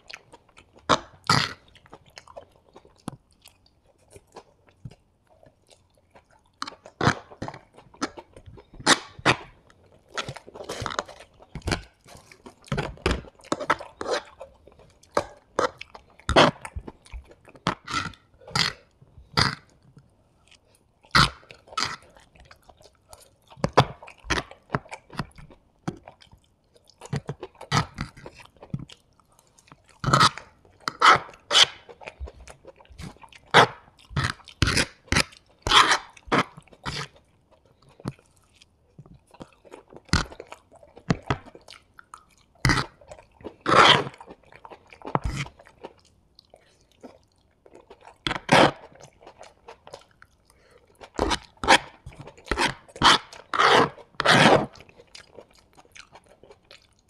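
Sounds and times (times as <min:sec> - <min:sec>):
chewing noodles: 0:00.0 - 0:57.0.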